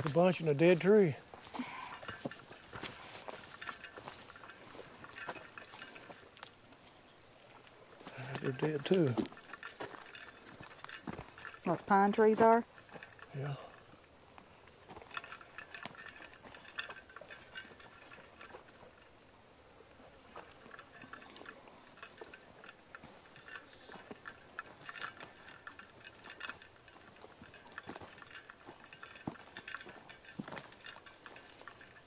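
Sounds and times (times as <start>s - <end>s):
crunching footsteps on trail: 0.0s - 32.0s.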